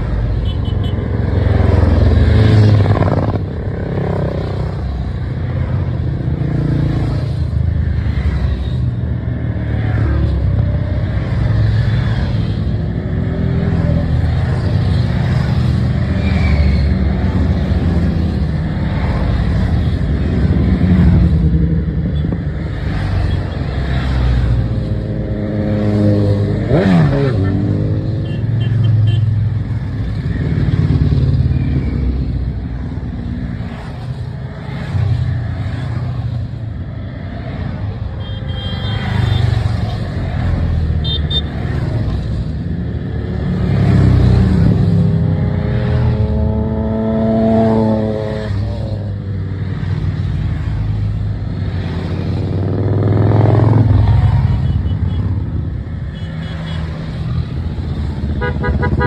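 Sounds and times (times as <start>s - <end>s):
motorcycles riding past: 0.0s - 59.0s.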